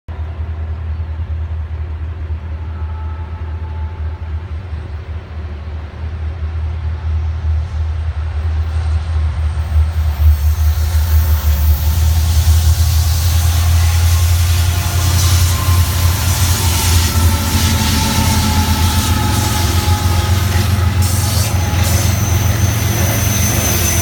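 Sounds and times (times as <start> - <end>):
diesel locomotive rumbling: 0.1 - 24.0.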